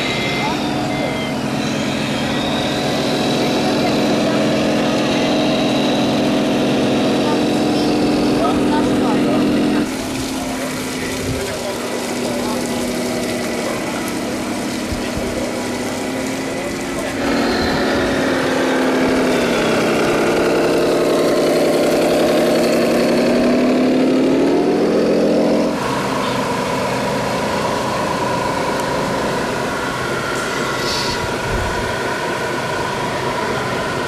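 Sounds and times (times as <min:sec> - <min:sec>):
simulated truck engine revving: 0:00.0 - 0:34.0.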